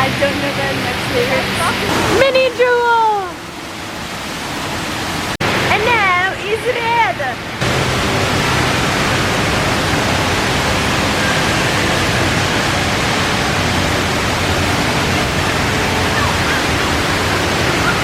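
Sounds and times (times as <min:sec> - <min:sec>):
indoor waterfall rushing: 0:00.0 - 0:18.0.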